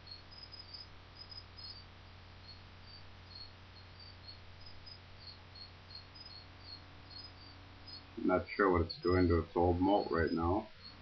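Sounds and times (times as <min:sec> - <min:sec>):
cricket chirping: 0:00.0 - 0:11.0
low electrical hum and hiss: 0:00.0 - 0:11.0.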